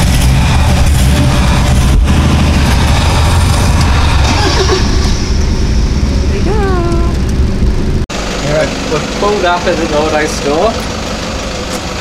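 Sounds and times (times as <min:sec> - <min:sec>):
deep engine rumble: 0:00.0 - 0:12.0.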